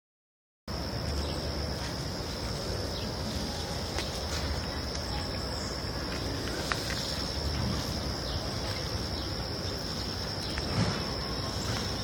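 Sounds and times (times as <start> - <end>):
insects singing: 0.7 - 12.0.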